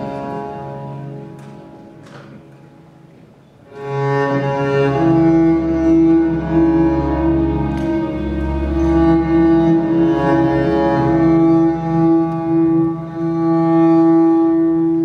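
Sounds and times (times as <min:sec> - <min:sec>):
bowed strings music: 0:00.0 - 0:15.0.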